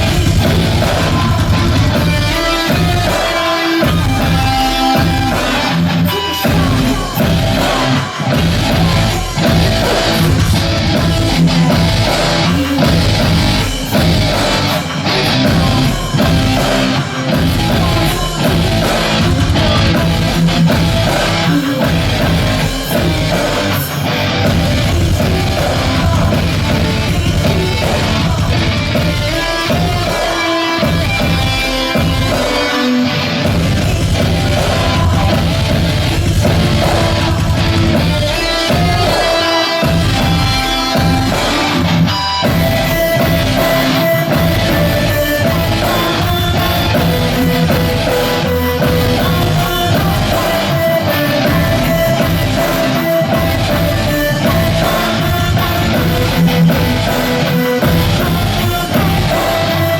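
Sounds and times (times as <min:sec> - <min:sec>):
distorted electric guitar: 0:00.0 - 0:59.9
steady drum beat: 0:00.0 - 0:59.9.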